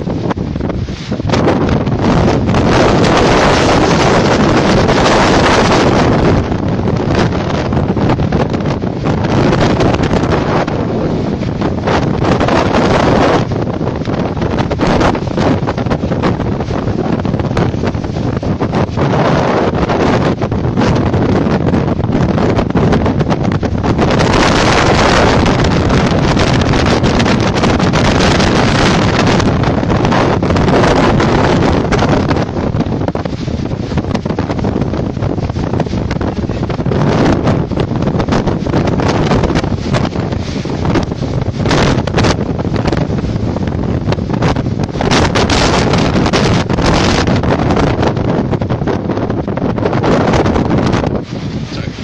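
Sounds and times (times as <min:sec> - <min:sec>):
storm wind roaring on microphone: 0:00.0 - 0:52.0.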